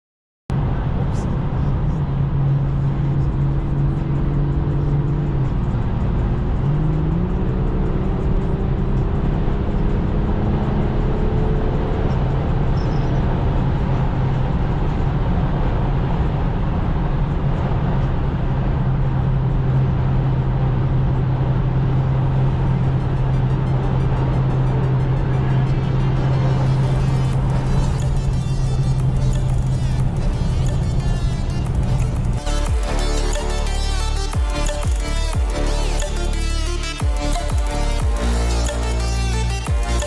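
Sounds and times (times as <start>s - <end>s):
car engine running: 0.5s - 40.0s
tyre and road noise: 0.5s - 40.0s.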